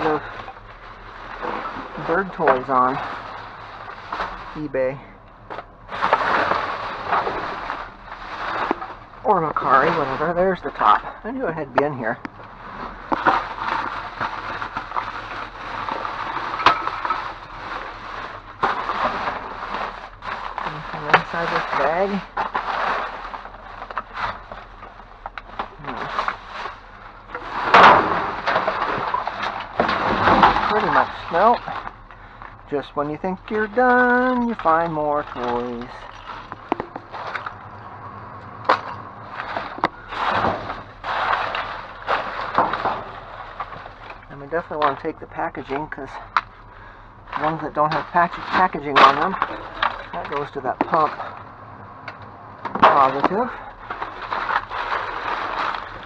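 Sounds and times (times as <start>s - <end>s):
packaging crinkling: 0.0s - 56.0s
plastic bags rustling: 0.0s - 56.0s
plastic packaging being handled: 0.0s - 56.0s.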